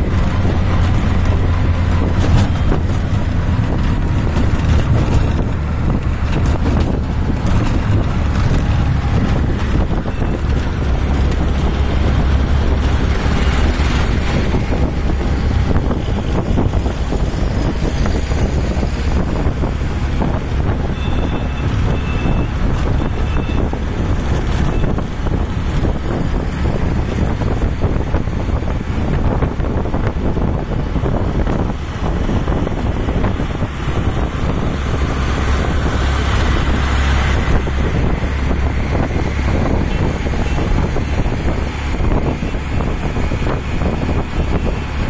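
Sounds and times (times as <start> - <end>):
rickshaw engine rumble: 0.0 - 45.0
wind buffeting microphone: 0.0 - 45.0.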